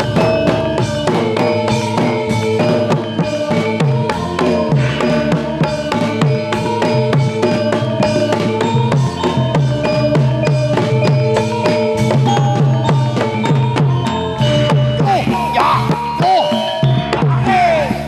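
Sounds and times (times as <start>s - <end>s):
hand drum strokes: 0.0s - 18.0s
ringing metallophone tones: 0.0s - 18.0s.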